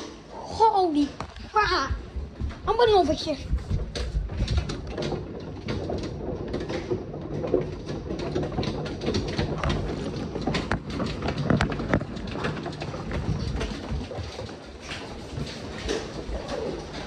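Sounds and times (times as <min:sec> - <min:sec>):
hail hitting roof and windows: 0:00.1 - 0:17.0.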